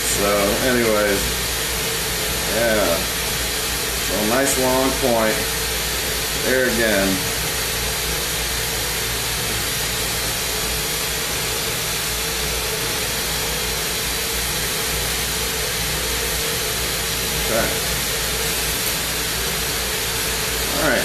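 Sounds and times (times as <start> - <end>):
faint steady hum: 0.0 - 21.0
torch burning with rushing hiss: 0.0 - 21.0.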